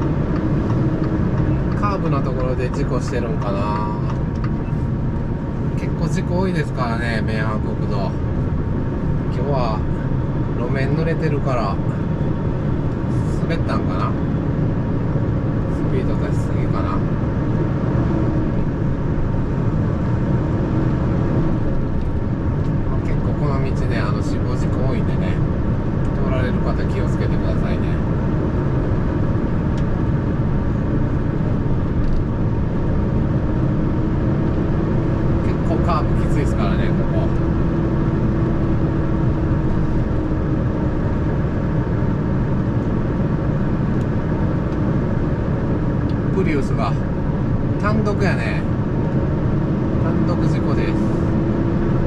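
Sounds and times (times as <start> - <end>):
diesel engine rumble: 0.0 - 52.0
road noise: 0.0 - 52.0.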